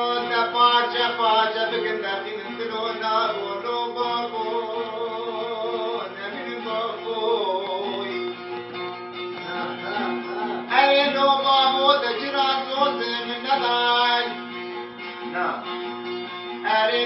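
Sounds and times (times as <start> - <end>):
man singing: 0.0 - 8.4, 9.4 - 14.5, 16.6 - 17.0
plucked string instrument: 0.0 - 17.0.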